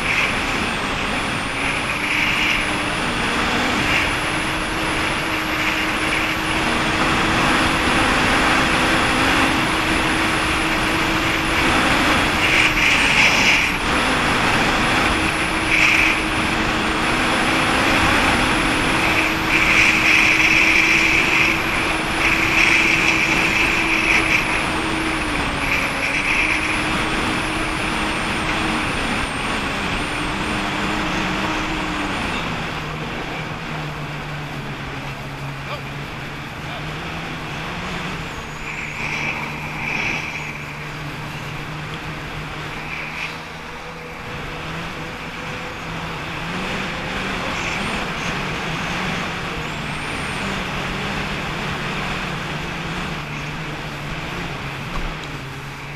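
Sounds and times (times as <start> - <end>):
jet ski engine running: 0.0 - 55.9
water rushing: 0.0 - 55.9.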